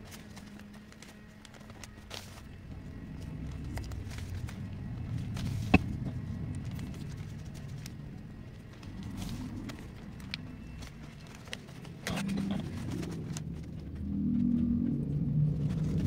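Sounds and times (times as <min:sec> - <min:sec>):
newspaper rustling and folding: 0:00.0 - 0:13.9
low rumble: 0:02.4 - 0:16.0.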